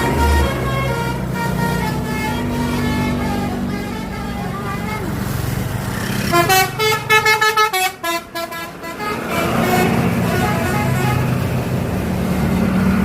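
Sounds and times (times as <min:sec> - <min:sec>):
bus melody horn: 0:00.0 - 0:11.8
bus engine running: 0:00.0 - 0:13.0.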